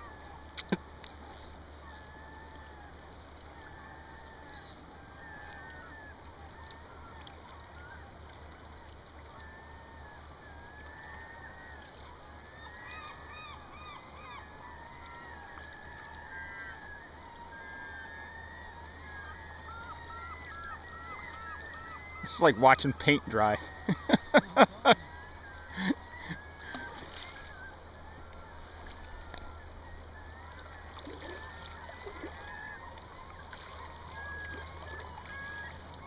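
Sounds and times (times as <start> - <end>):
birds calling: 3.4 - 36.0.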